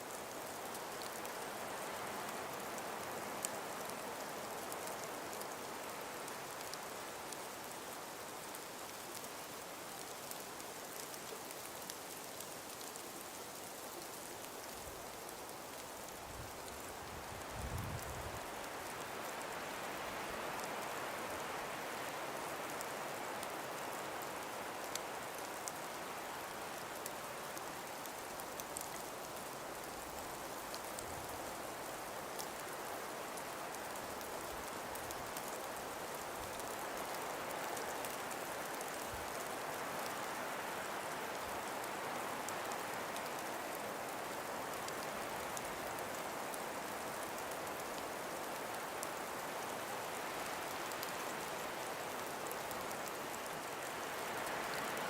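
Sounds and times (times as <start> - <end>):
breeze through trees: 0.0 - 55.0
faint ticks: 0.1 - 55.0.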